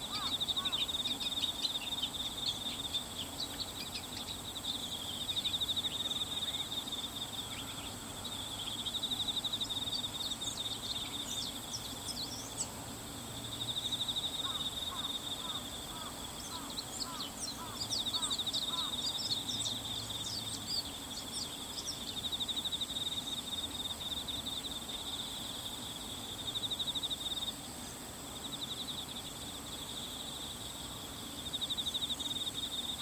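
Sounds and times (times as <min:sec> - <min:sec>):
insect trill: 0:00.0 - 0:33.0.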